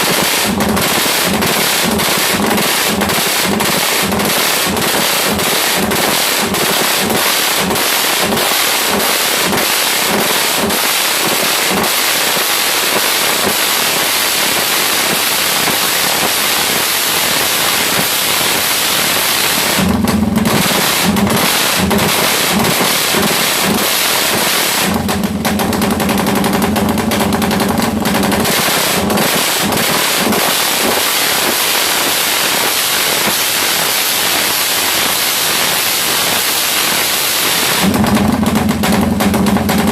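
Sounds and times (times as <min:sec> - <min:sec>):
motorcycle engine revving: 0:00.0 - 0:31.7, 0:37.6 - 0:39.9.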